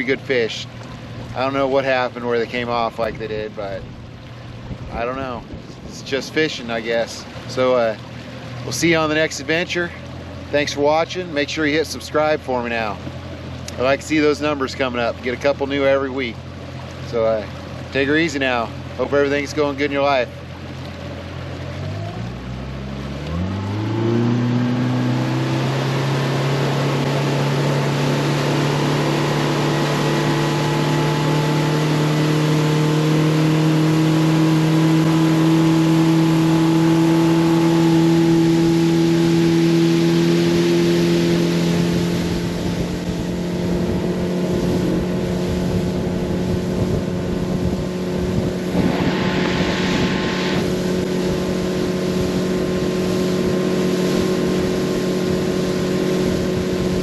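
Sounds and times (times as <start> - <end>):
outboard motor running: 0.0 - 57.0
water rushing: 0.0 - 57.0
wind: 0.0 - 57.0.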